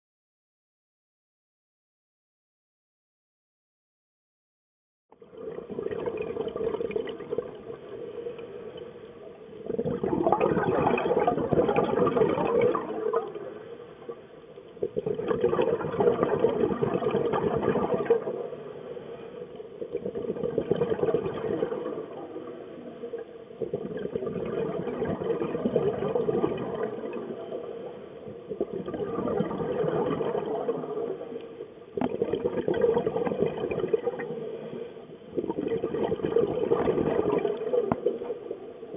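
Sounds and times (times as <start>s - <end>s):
diver exhaling bubbles underwater: 5.2s - 8.9s, 9.5s - 38.9s.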